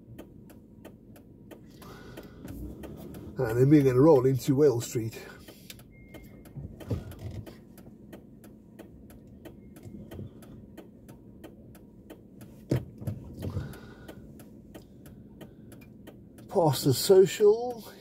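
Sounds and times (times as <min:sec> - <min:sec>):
car turn indicator ticking: 0:00.0 - 0:18.0.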